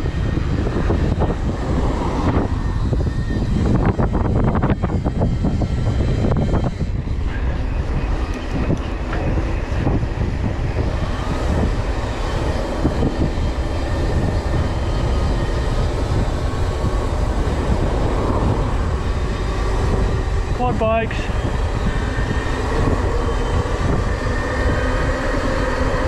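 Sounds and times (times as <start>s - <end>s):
bike rolling on road: 0.0s - 26.0s
wind buffeting microphone: 0.0s - 26.0s.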